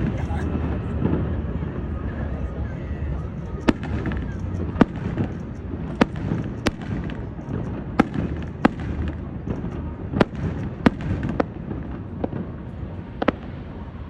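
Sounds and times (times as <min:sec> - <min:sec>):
continuous low rumble: 0:00.0 - 0:14.0
fireworks bursting: 0:00.0 - 0:14.0.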